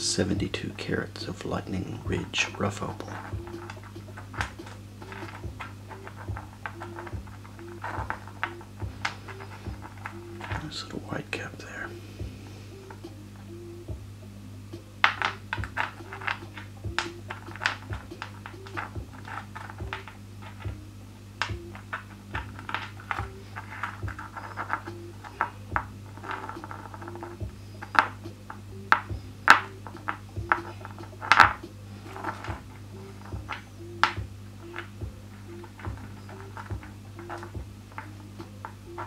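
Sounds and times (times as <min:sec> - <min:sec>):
background music with soft beat: 0:00.0 - 0:39.0
low hum: 0:00.0 - 0:39.0
stones clicking together: 0:02.1 - 0:10.8, 0:15.0 - 0:20.8, 0:21.4 - 0:39.0.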